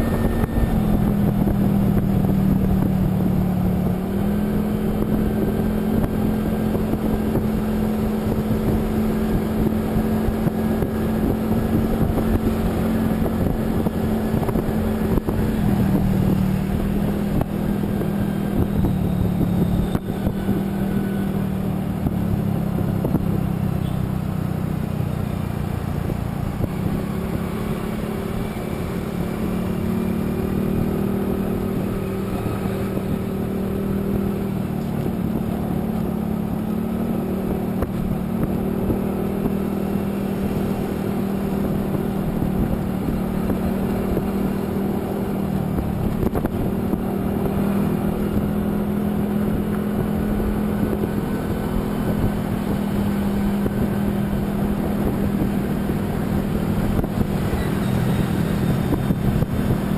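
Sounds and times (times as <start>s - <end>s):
road and wind noise: 0.0s - 59.9s
vehicle engine cruising: 0.0s - 59.9s.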